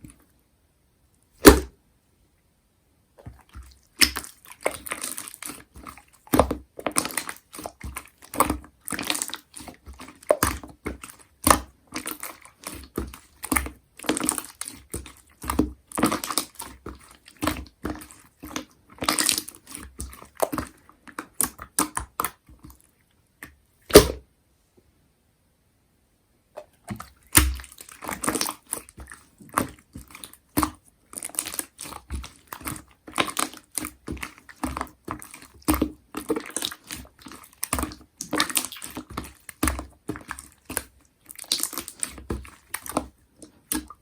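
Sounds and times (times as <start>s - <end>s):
slime squished by hand: 1.4s - 1.8s, 3.2s - 22.9s, 23.8s - 24.2s, 26.6s - 44.0s.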